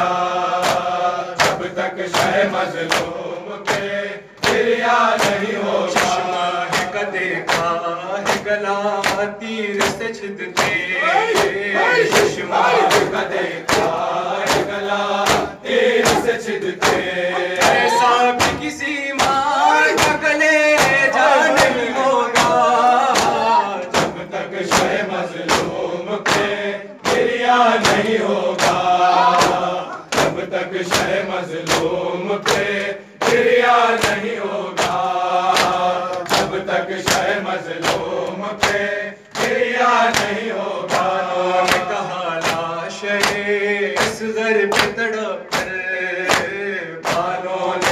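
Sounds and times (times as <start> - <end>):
crowd singing along: 0.0 - 47.9
hands beating chests in unison: 0.0 - 47.9
men chanting through a microphone: 0.0 - 47.9.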